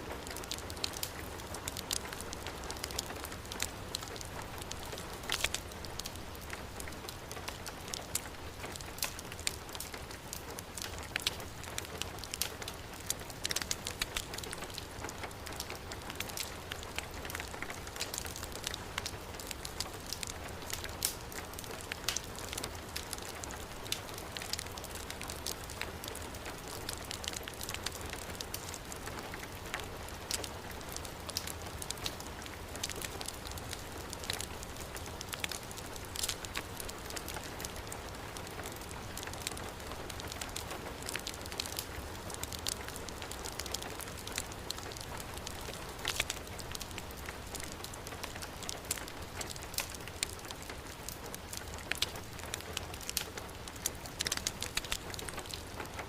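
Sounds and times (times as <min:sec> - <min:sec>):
fireplace fire crackling and popping: 0:00.0 - 0:56.0.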